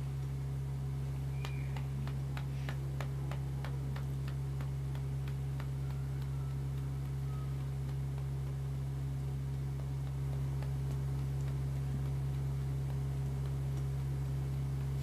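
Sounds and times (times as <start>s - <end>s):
steady low hum: 0.0s - 15.0s
evenly spaced ticks: 1.3s - 15.0s.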